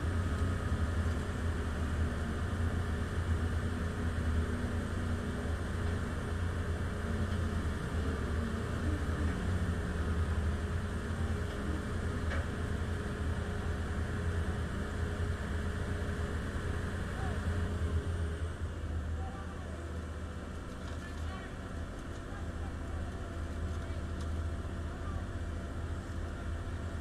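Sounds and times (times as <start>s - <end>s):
crane diesel engine humming: 0.0s - 27.0s.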